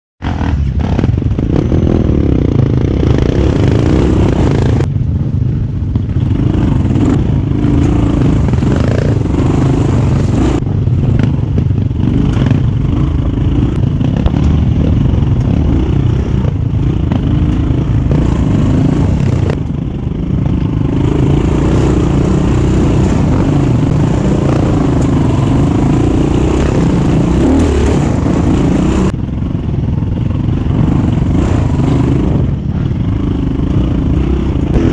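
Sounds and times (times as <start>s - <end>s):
motorcycle engine running: 0.2s - 34.9s
motorcycle rattling: 0.2s - 34.9s.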